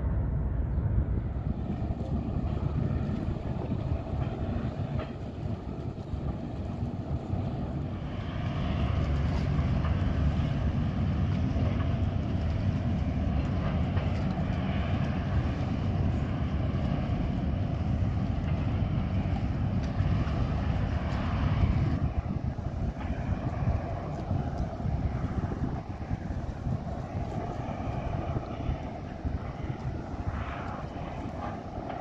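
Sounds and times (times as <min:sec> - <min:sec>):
ferry engines rumbling: 0:00.0 - 0:32.0.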